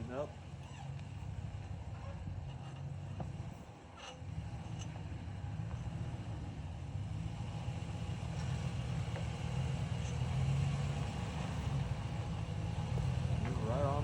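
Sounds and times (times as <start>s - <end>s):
pickup truck engine running low: 0.0s - 14.0s.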